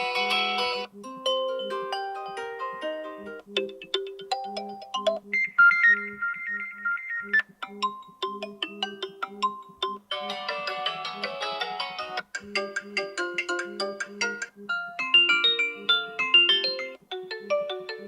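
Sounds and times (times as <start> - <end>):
electronic ringtone melodies: 0.0 - 18.0.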